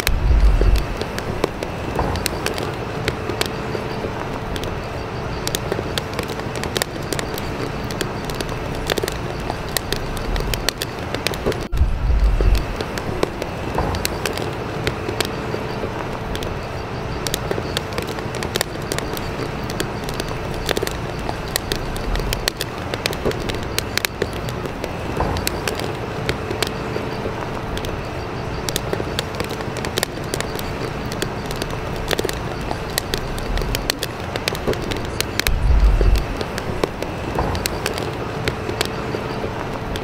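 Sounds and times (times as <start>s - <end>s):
crackles and clicks: 0.0s - 40.0s
faint steady hum: 0.0s - 40.0s
low rumbles: 0.0s - 40.0s
steady rushing noise: 0.0s - 40.0s.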